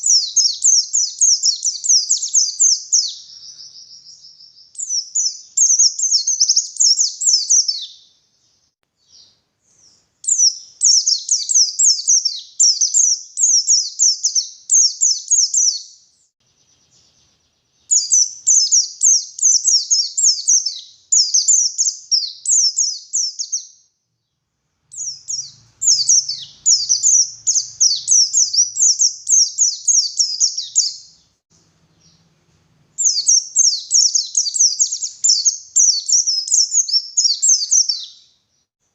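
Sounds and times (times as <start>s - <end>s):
bird singing high twittering notes: 0.0s - 8.2s, 9.0s - 23.9s, 24.9s - 31.3s, 33.0s - 38.7s.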